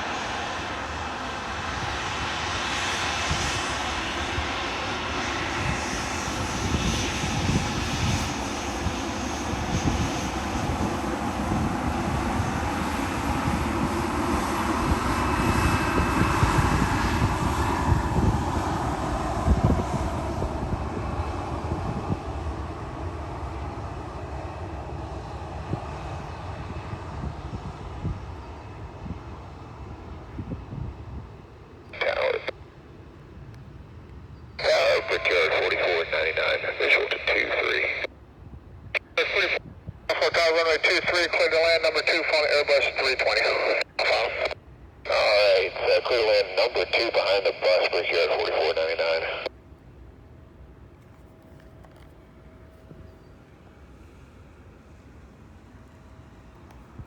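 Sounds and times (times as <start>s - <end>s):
airplane engines passing by: 0.0s - 57.0s.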